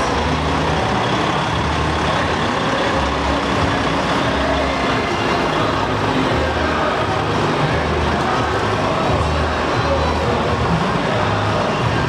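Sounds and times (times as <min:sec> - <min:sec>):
trucks driving past: 0:00.0 - 0:12.0.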